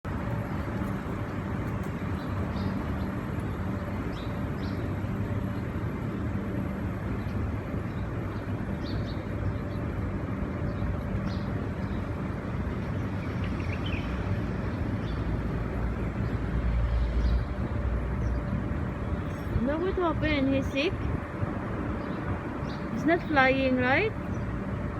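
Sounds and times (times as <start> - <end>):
street traffic: 0.0 - 24.9
vehicle rumble: 0.0 - 24.9.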